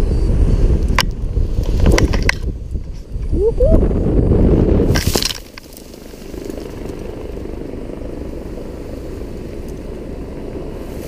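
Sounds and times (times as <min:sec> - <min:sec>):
helicopter rumble: 0:00.0 - 0:11.0.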